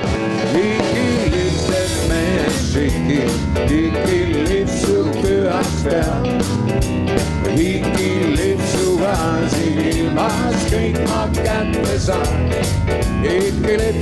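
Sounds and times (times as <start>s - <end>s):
rock song with guitar: 0.0s - 14.0s
person singing: 0.4s - 6.6s, 7.4s - 14.0s.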